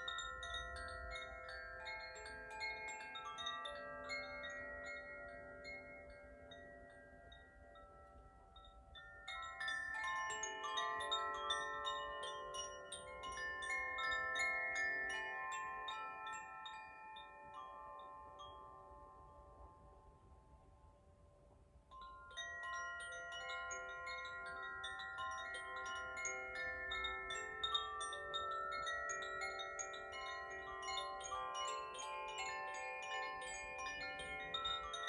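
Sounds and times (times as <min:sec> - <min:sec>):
wind chimes tinkling: 0:00.0 - 0:35.0.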